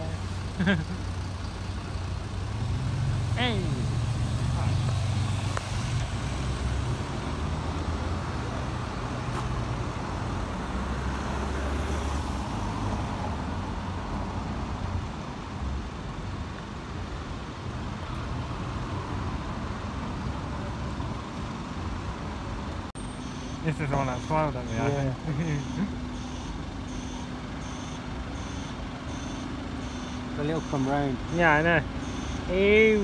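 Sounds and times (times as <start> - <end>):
diesel buses pulling away: 0.0 - 33.0
traffic noise: 0.0 - 33.0.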